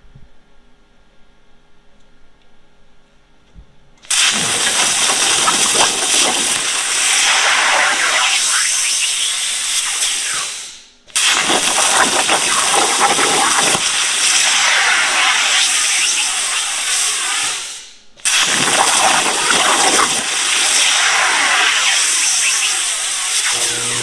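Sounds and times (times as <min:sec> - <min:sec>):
plasma torch hissing: 0:04.1 - 0:23.6.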